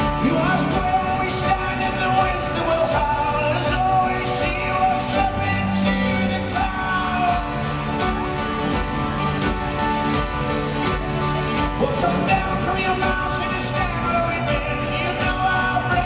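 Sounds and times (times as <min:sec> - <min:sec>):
acoustic guitars strumming: 0:00.0 - 0:16.0
banjo: 0:00.0 - 0:16.0
steady drum beat: 0:00.0 - 0:16.0.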